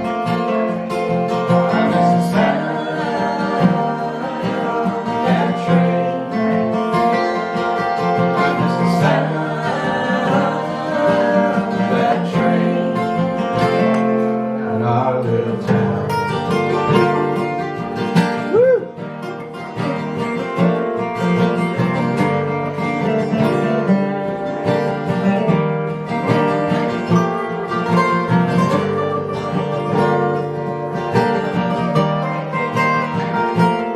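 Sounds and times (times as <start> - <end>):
other plucked strings: 0.0 - 33.9
strummed acoustic guitar: 0.0 - 33.9.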